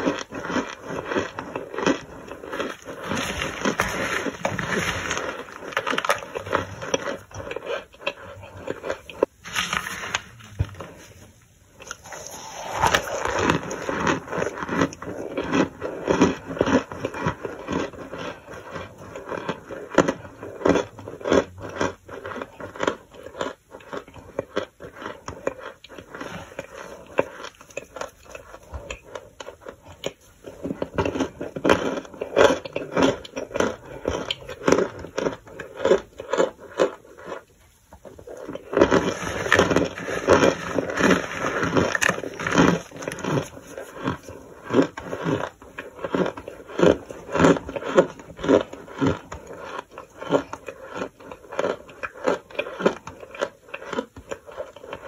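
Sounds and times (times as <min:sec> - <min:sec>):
starch crunching by hand: 0:00.0 - 0:11.2, 0:11.8 - 0:29.3, 0:38.3 - 0:55.0.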